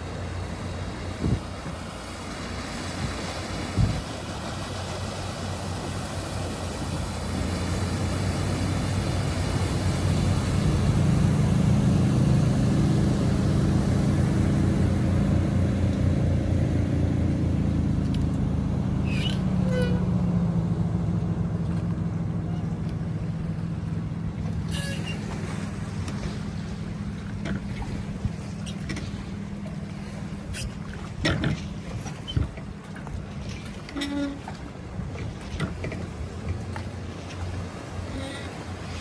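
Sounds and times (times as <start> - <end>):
boat engine drone: 0.0 - 39.0.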